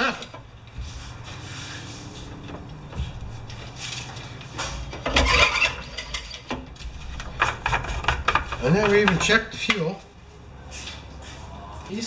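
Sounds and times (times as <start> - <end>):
lawn mower mechanical clatter: 0.0 - 9.9.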